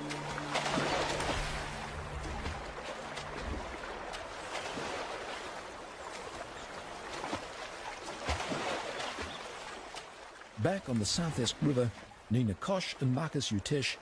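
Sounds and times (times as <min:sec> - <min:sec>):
faint water splashes: 0:00.0 - 0:14.0
river water rushing: 0:00.0 - 0:14.0.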